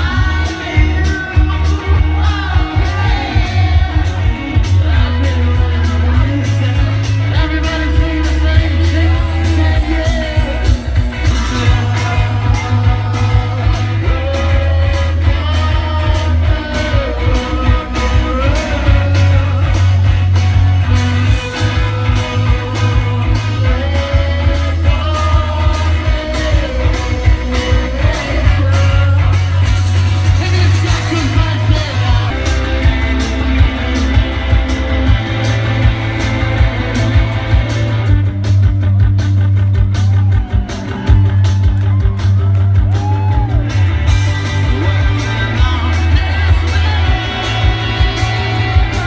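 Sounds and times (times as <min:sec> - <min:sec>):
lead vocal singing: 0:00.0 - 0:38.1, 0:43.0 - 0:49.0
bass line: 0:00.0 - 0:49.0
drum beat: 0:00.0 - 0:49.0
electric guitars: 0:00.0 - 0:49.0.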